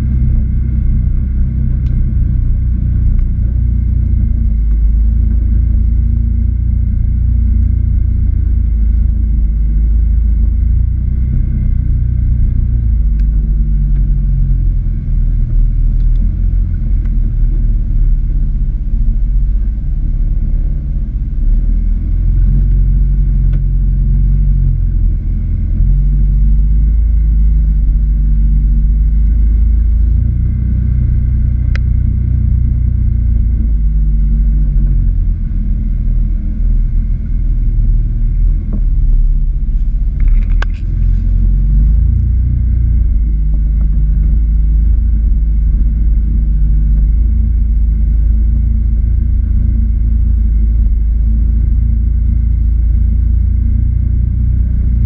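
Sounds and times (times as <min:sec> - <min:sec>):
faint high whine: 0:00.0 - 0:55.0
vehicle engine rumbling: 0:00.0 - 0:55.0.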